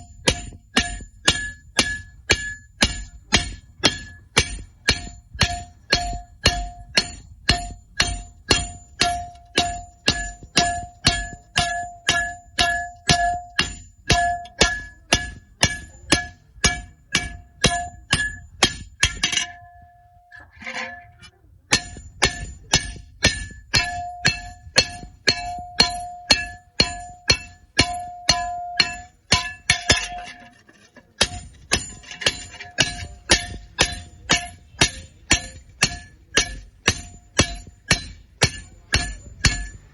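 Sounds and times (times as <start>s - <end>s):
hammer striking iron: 0.0s - 39.9s.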